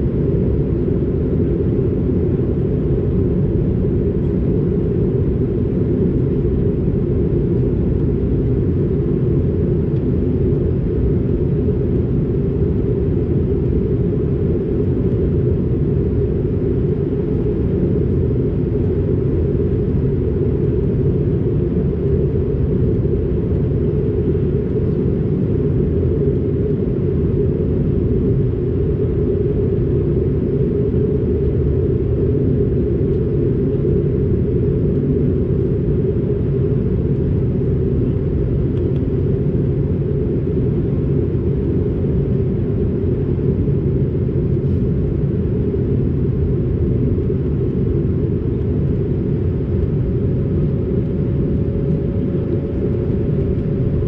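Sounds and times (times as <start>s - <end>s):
airliner cabin drone: 0.0s - 54.0s.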